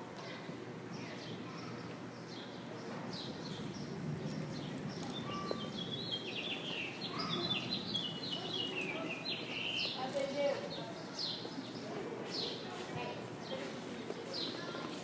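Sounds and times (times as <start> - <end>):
low background noise: 0.0 - 15.0
small birds chirping: 0.9 - 15.0.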